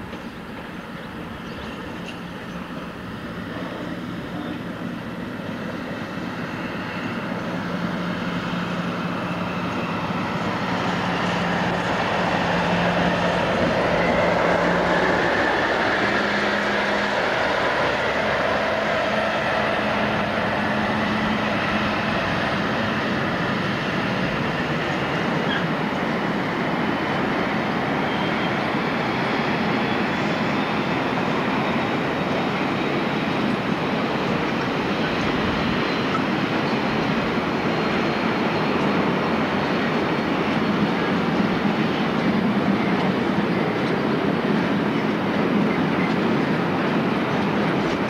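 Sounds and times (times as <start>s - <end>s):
diesel locomotive engine drone: 0.0s - 48.0s
train wagons rumbling past: 0.0s - 48.0s.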